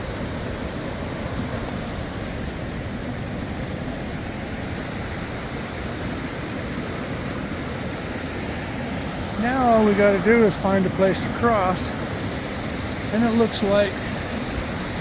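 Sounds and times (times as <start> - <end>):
creek and small waterfall rushing: 0.0 - 15.0.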